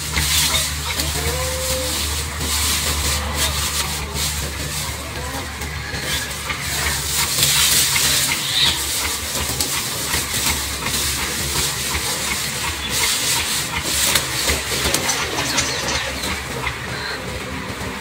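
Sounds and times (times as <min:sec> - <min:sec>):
hands digging soil: 0:00.0 - 0:16.4
dry grass rustling and crackling: 0:00.0 - 0:17.1.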